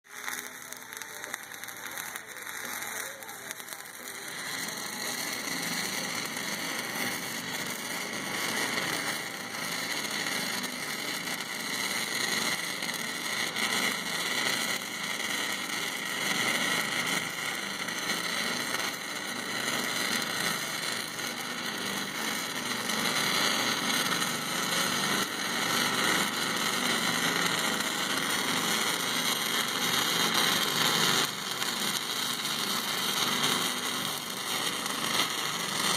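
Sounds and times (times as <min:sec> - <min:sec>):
welding arc crackling: 0:00.0 - 0:35.9.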